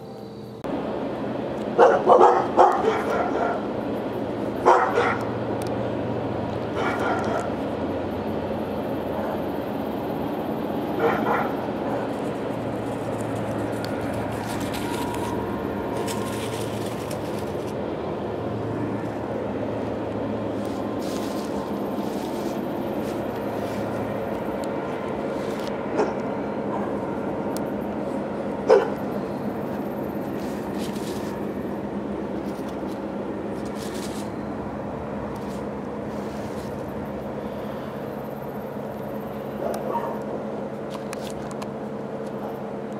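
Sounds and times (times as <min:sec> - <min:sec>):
low hum with hiss: 0:00.0 - 0:42.9.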